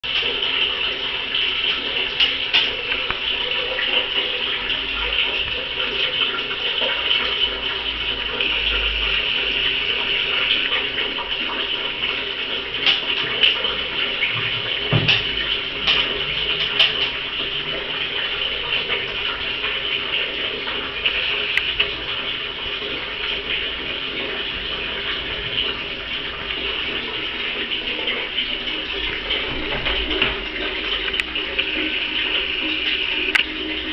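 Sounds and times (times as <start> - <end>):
toilet flushing: 0.0 - 33.9.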